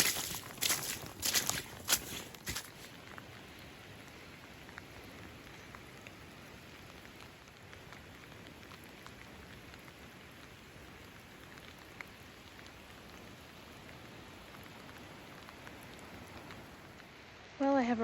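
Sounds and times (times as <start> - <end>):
raindrops ticking nearby: 0.0 - 17.9
heavy rain falling: 0.0 - 18.0.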